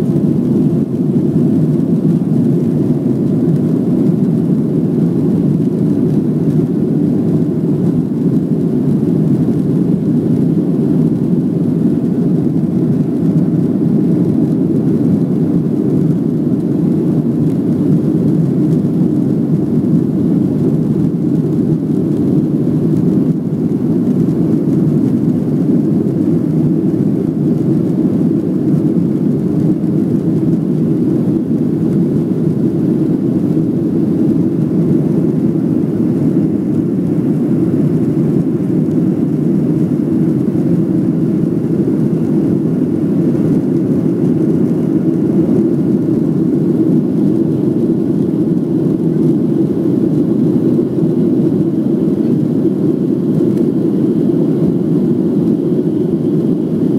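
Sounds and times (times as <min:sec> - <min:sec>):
jet engine rush: 0:00.0 - 0:56.9.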